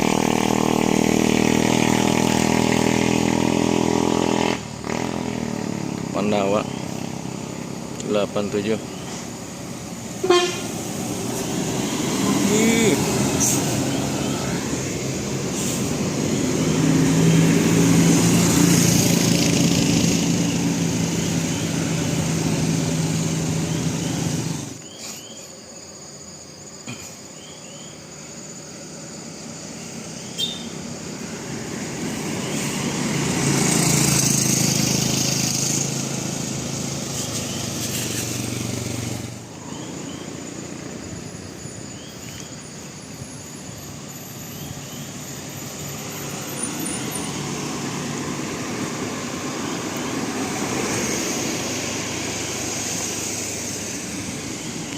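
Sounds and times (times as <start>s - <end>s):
heavy vehicles engine drone: 0.0s - 54.9s.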